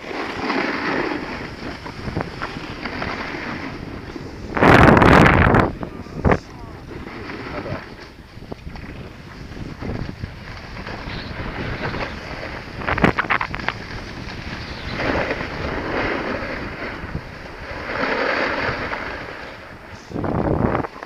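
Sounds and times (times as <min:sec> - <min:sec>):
edges scraping on snow: 0:00.0 - 0:08.1, 0:09.2 - 0:20.8
wind rushing over microphone: 0:00.0 - 0:21.0.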